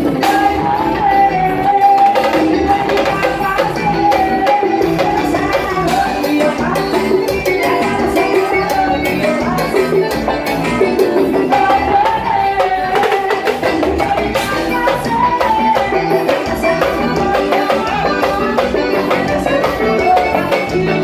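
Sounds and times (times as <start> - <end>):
drums and percussion: 0.0 - 21.0
instrumental melody line: 0.0 - 21.0.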